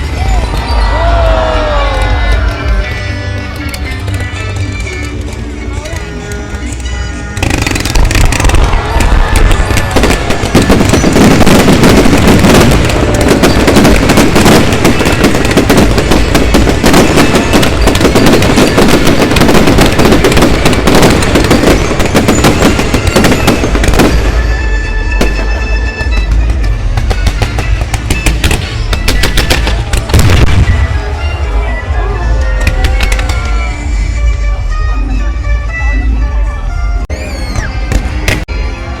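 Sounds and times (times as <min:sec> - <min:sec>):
fireworks bangs and crackles: 0:00.0 - 0:34.4, 0:37.4 - 0:38.8.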